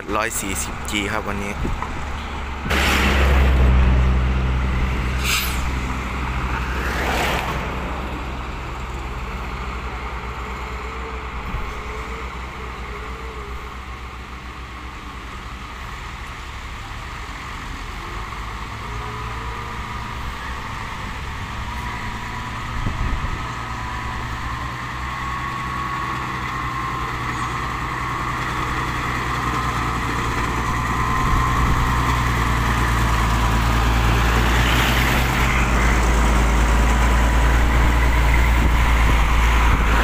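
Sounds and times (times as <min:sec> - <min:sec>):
diesel engines running: 0:00.0 - 0:40.0
vehicles rushing past: 0:00.0 - 0:40.0.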